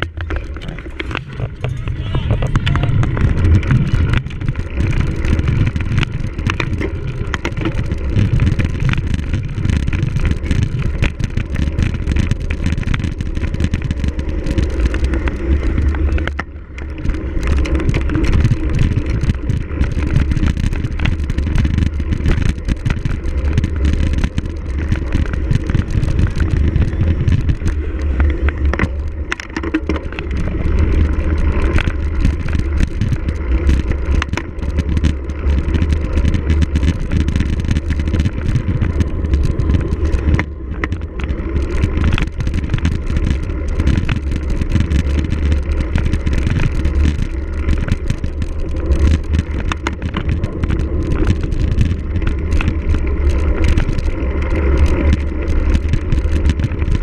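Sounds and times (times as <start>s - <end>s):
bike clicking and rattling: 0.0s - 57.0s
wind rumble on microphone: 0.0s - 57.0s.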